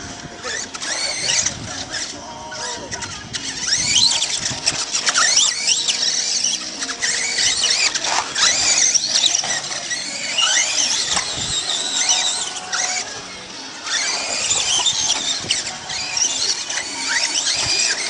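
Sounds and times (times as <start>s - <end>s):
rc car electric motors whining: 0.0s - 18.0s.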